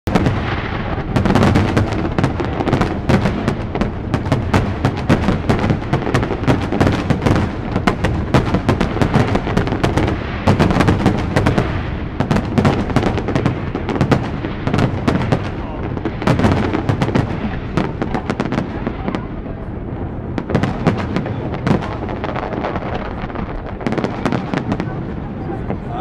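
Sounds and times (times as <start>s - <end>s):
low rolling rumble: 0.1s - 26.0s.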